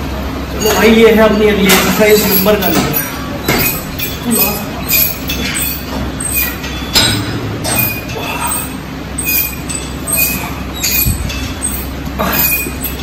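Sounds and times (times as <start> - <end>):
fans running: 0.0 - 13.0
dumbbells clinking: 1.7 - 13.0.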